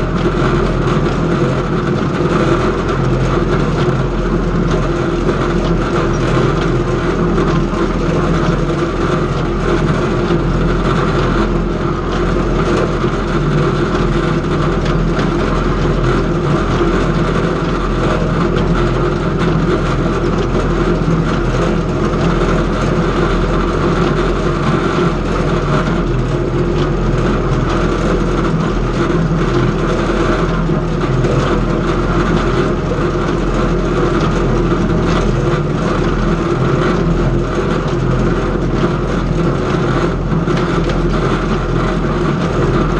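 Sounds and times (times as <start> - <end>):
tractor and hay baler running: 0.0 - 42.9.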